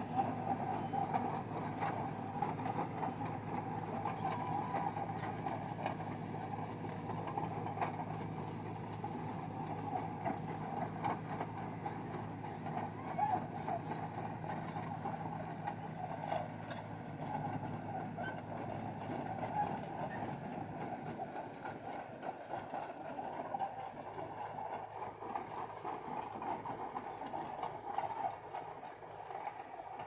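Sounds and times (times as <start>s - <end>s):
diesel engine running: 0.0s - 30.0s
steel tracks clattering: 0.0s - 30.0s.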